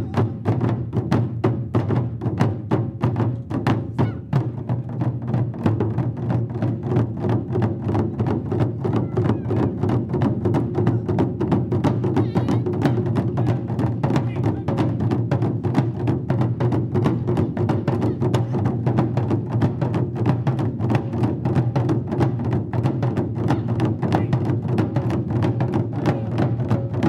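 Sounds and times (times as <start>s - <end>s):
taiko drums beating fast: 0.0s - 27.0s.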